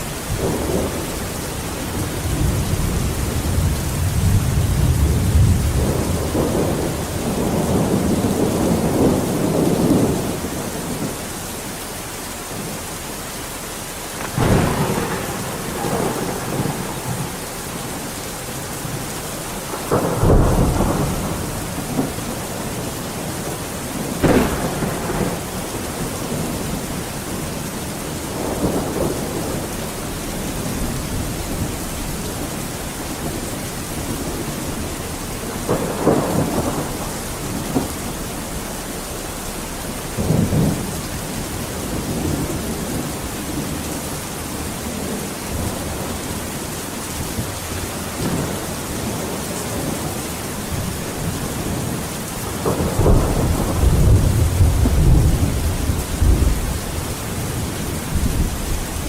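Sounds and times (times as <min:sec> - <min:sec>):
thunder rolling: 0:00.0 - 0:11.2, 0:14.0 - 0:43.9, 0:47.2 - 0:59.0
heavy rain: 0:00.0 - 0:59.0.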